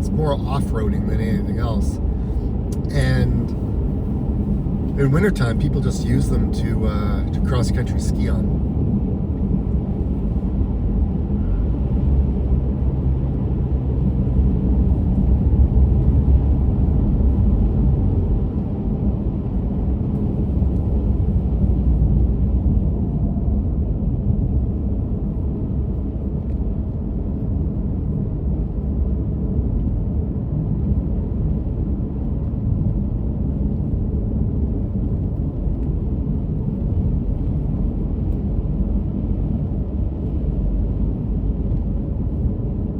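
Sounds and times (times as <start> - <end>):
road and tyre noise in car: 0.0 - 42.9.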